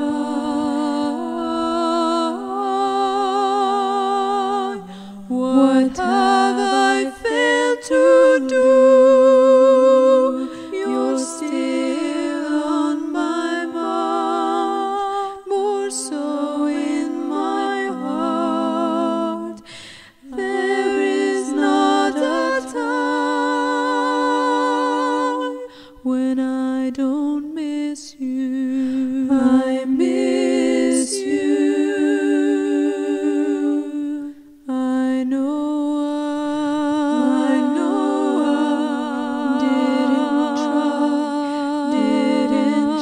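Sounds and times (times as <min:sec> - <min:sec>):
person singing wordlessly: 0:00.0 - 0:43.0.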